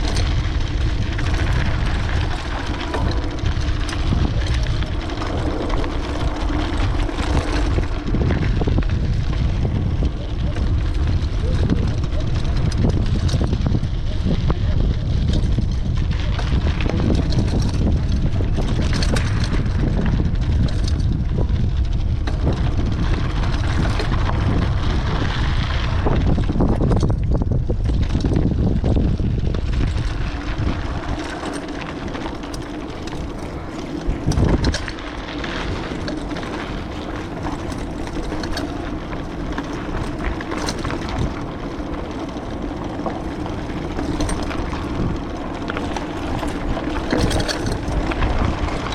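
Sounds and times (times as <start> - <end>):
bicycle road noise: 0.0 - 48.9
wind buffeting microphone: 0.0 - 48.9.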